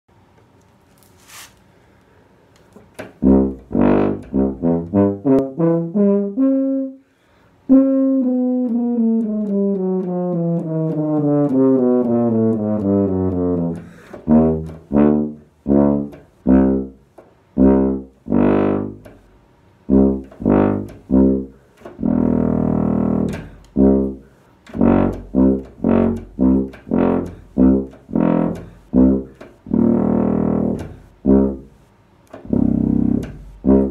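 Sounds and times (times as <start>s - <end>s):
tuba playing: 3.0s - 33.9s.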